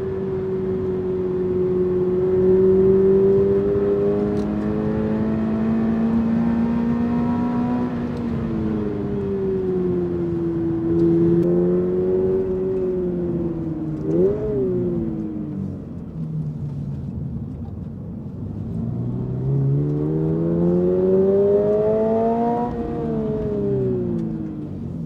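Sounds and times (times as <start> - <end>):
car engine revving while driving: 0.0 - 25.0.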